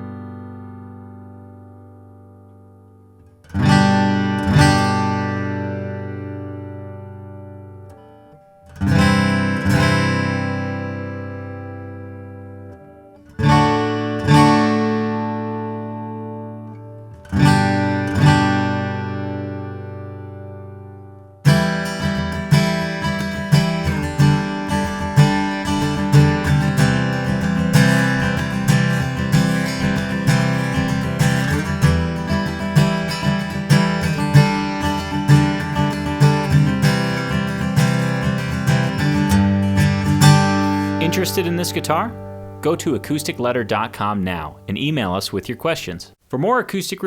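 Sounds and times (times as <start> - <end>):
rhythmic acoustic guitar strumming: 0.0 - 46.6
acoustic guitar chords ringing: 0.0 - 46.9.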